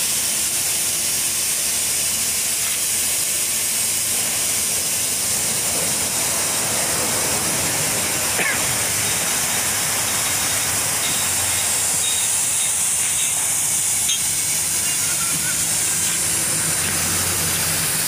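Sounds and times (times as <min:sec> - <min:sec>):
loud steady hissing: 0:00.0 - 0:18.0.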